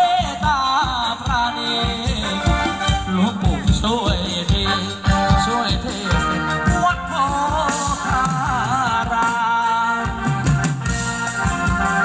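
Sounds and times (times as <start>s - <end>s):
live band dance music: 0.0s - 12.0s
steady drum beat: 0.0s - 12.0s.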